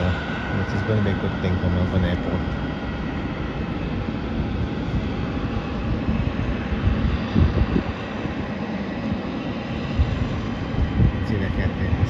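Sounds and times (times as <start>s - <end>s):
distant jet engines: 0.0s - 12.0s.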